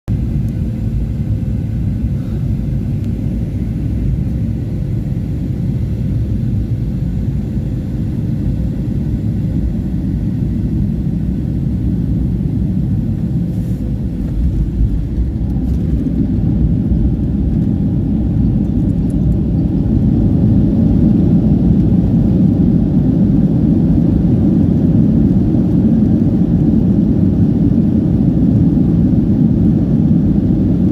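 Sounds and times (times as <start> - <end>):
airliner engines rumbling: 0.1 - 30.9.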